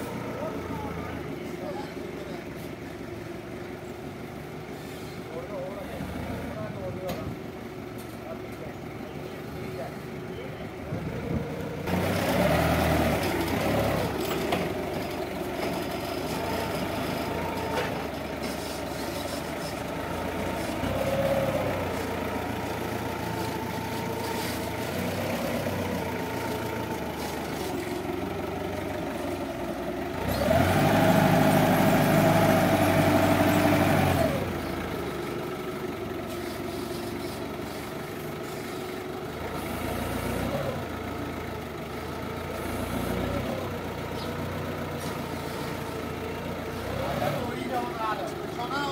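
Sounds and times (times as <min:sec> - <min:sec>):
forklift engine running: 0:00.0 - 0:48.9.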